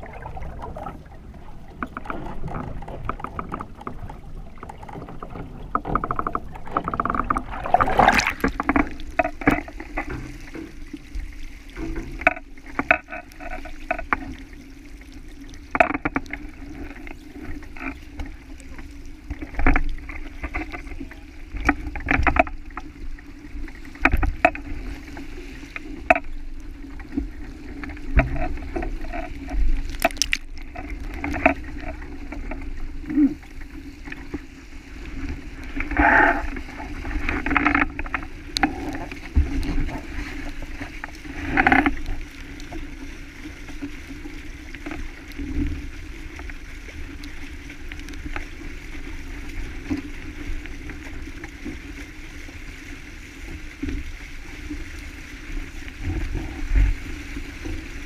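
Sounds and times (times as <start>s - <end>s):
water rushing along hull: 0.0s - 58.0s.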